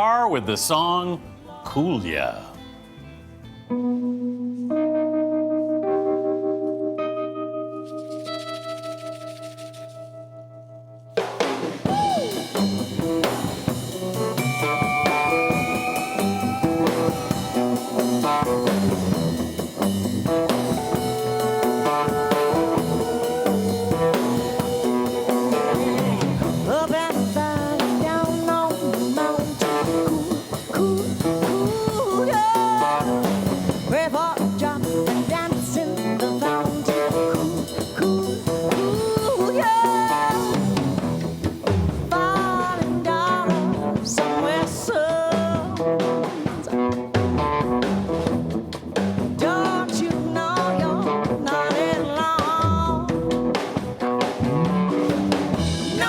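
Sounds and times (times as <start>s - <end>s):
bass guitar: 0.0s - 56.0s
blues guitar lead line: 0.0s - 56.0s
drum kit steady beat: 11.1s - 56.0s.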